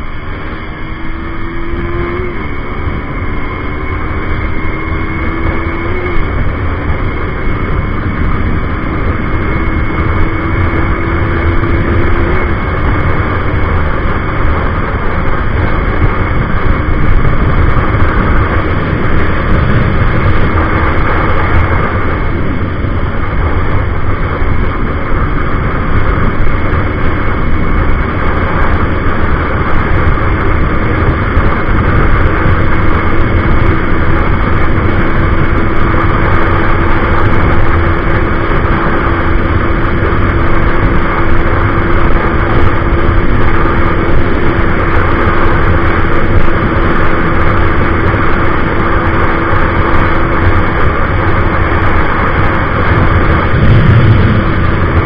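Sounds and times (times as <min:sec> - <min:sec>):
motorcycle engine at high revs: 0:00.0 - 0:55.0
wind rushing over microphone: 0:00.0 - 0:55.0.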